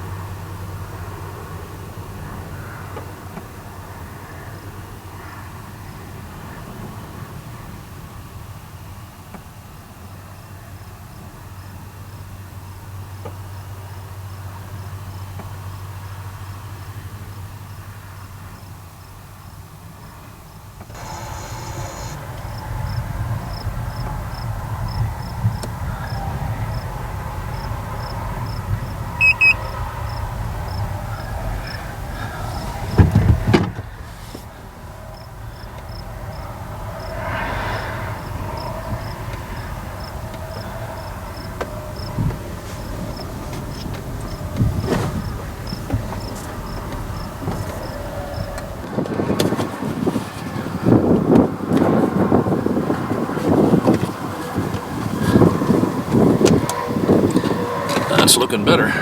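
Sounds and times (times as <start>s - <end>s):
crickets chirping: 0.0s - 59.0s
vehicle engine and road rumble: 0.0s - 59.0s.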